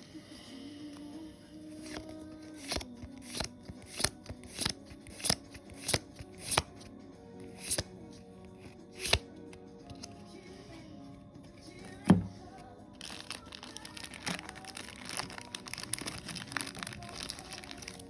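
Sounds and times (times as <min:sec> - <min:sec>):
quiet background music: 0:00.0 - 0:18.0
cards snapping: 0:01.8 - 0:10.2, 0:11.9 - 0:18.0.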